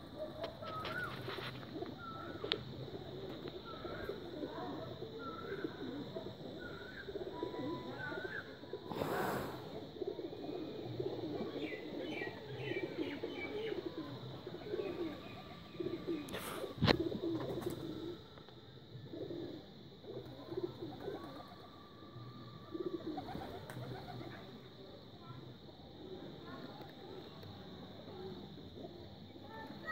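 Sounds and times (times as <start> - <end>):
pigeons cooing: 0.0 - 26.6.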